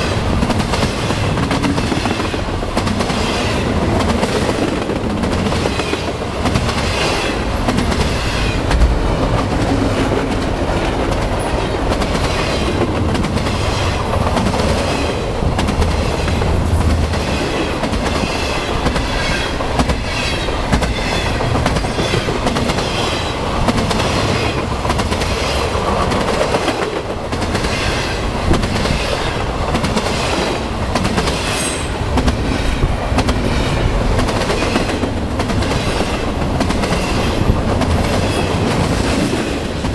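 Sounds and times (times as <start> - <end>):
train wheels clacking over rails: 0.0 - 39.9.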